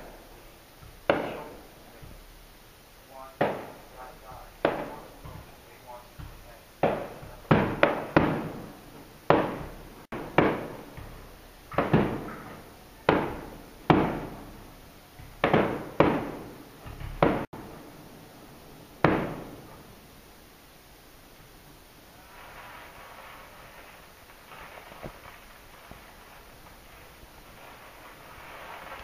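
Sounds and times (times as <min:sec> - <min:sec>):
firework shells bursting: 0:00.0 - 0:29.0.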